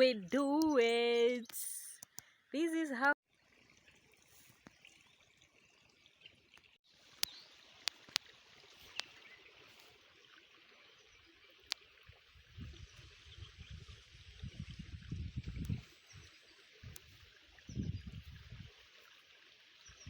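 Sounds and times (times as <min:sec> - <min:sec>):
small stream rushing: 0:03.4 - 0:20.0.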